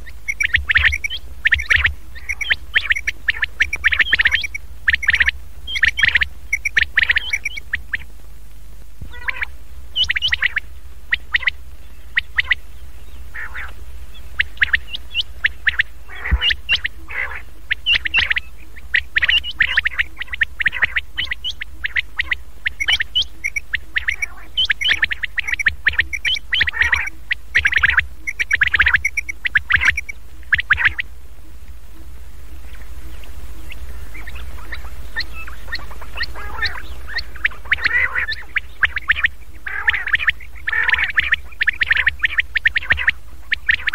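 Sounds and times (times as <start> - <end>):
quail calls: 0.0 - 8.1, 9.0 - 43.9
steady low hum: 0.0 - 43.9.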